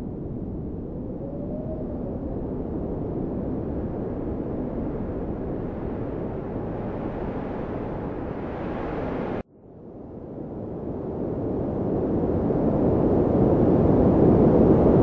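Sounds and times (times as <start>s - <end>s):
wind on microphone: 0.0s - 9.4s, 10.0s - 15.0s.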